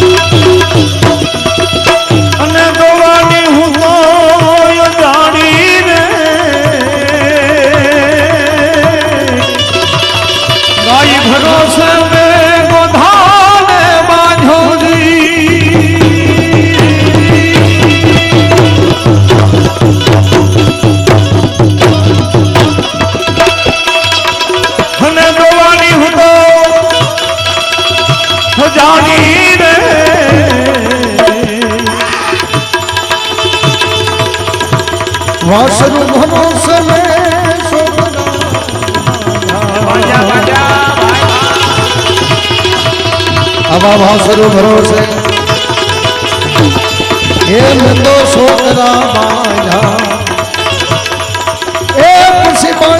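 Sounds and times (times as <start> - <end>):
fast hand-drum strokes: 0.0 - 52.9
tabla rhythm: 0.0 - 52.9.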